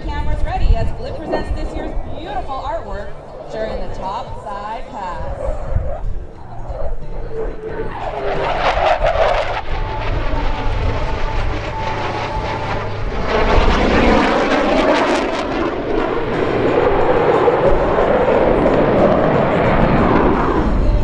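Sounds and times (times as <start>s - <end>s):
jet flyby roar: 0.0s - 21.0s.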